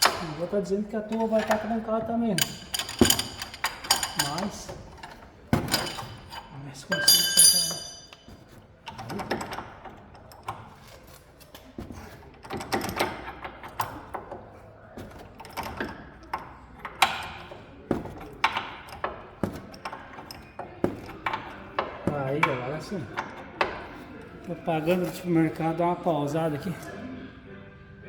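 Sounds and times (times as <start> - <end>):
metal tools clinking and knocking: 0.0 - 25.8.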